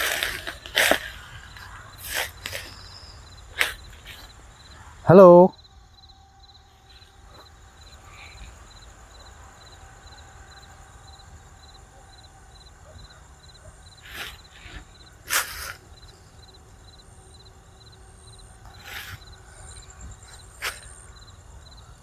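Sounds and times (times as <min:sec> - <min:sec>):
cricket chirping: 0:00.0 - 0:22.0
faint insect hum: 0:00.0 - 0:22.0.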